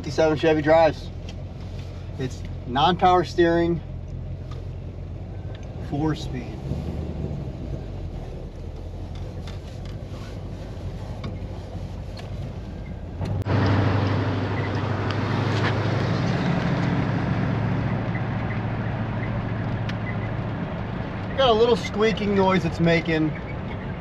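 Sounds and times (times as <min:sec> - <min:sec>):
car engine hum: 0:00.0 - 0:24.0
road noise: 0:00.0 - 0:24.0.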